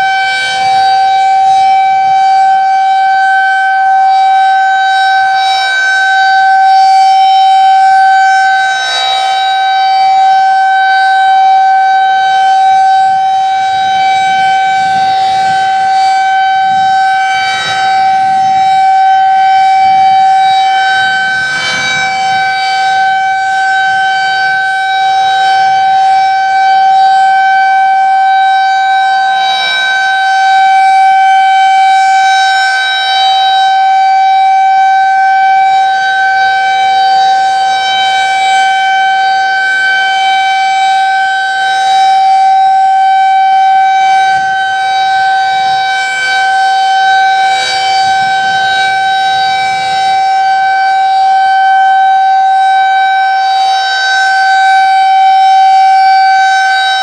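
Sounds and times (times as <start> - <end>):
civil defense siren steady tone: 0.0 - 57.0.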